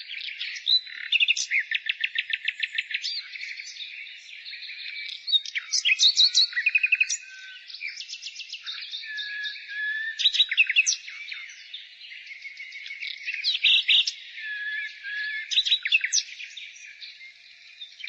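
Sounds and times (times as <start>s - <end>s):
songbirds singing: 0.0s - 18.0s.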